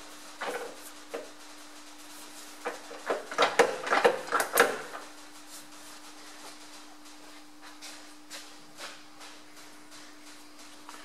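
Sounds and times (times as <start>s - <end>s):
steady faint hum: 0.0s - 11.0s.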